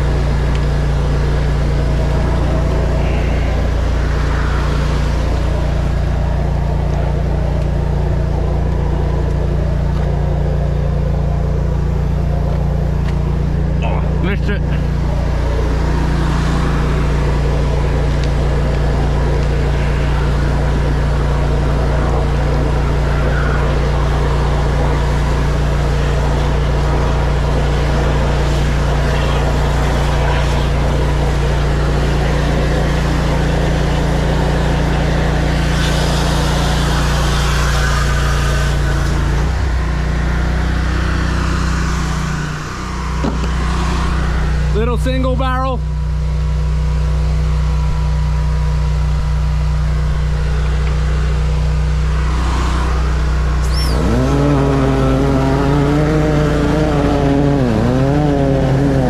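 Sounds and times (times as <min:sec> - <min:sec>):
water spraying from hose: 0:00.0 - 0:13.7, 0:14.6 - 0:44.7, 0:47.6 - 0:59.0
drain jetter pump engine running: 0:00.0 - 0:59.0.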